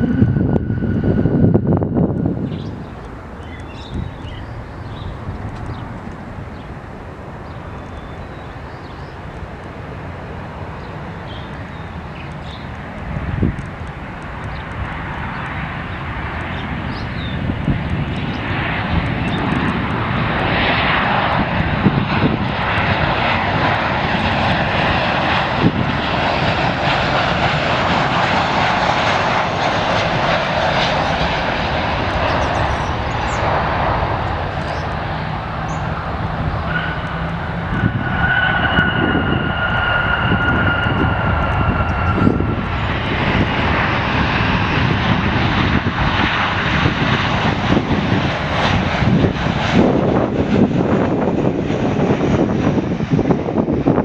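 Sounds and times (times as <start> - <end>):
high jet whine: 0.0 - 54.0
jet engines rushing: 0.0 - 54.0.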